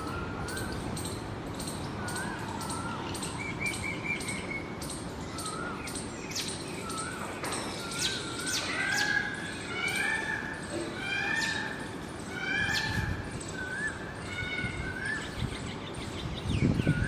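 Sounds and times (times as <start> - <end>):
small birds chirping: 0.0 - 17.0
steady background hiss: 0.0 - 17.0.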